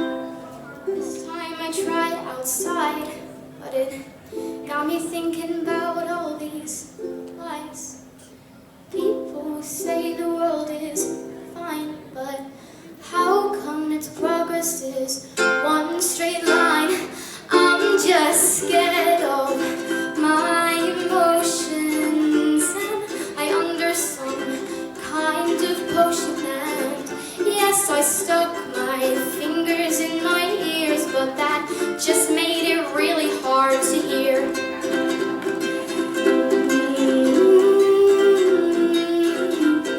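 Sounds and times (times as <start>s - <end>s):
girl singing: 0.0s - 8.1s, 8.9s - 39.9s
ukulele strumming: 0.0s - 12.1s, 13.0s - 39.9s.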